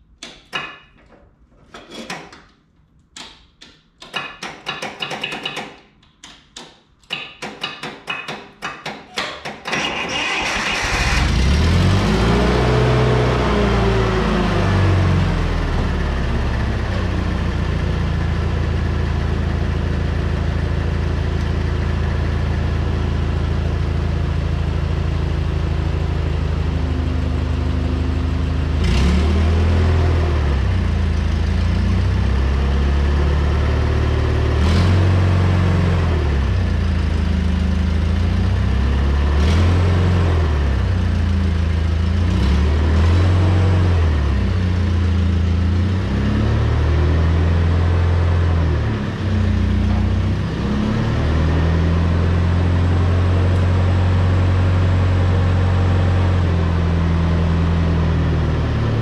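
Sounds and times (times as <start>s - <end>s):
forklift engine idling and revving: 9.8s - 59.0s.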